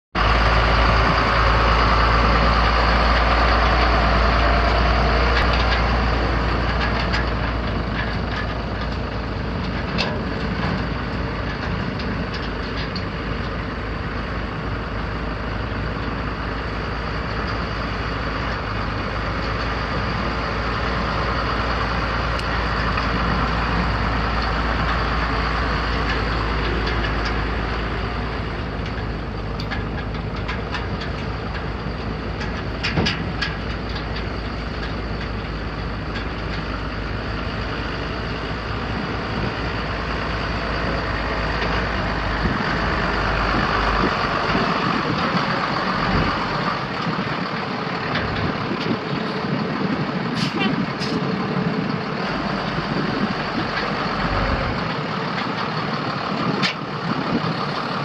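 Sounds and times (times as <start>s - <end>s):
diesel truck engine idling: 0.2s - 58.0s.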